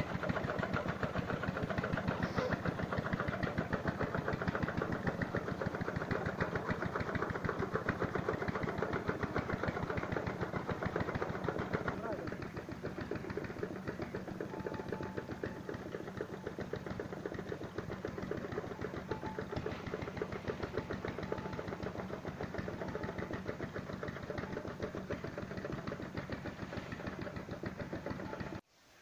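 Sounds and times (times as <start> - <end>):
small engine running: 0.0 - 28.7.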